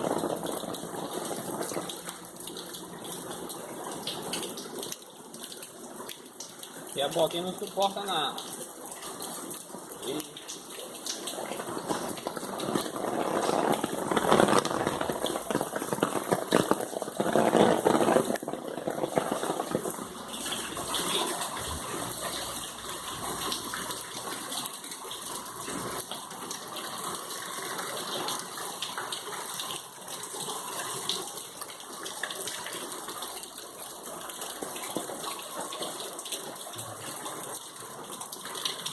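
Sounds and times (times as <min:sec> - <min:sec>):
water gushing and splashing: 0:00.0 - 0:38.9.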